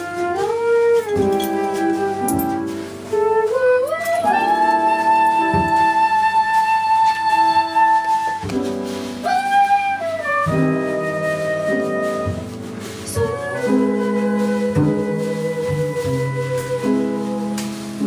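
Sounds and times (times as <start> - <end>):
lead melody line: 0.0 - 14.6
double bass: 0.0 - 18.0
drums: 0.0 - 18.0
piano: 0.0 - 18.0.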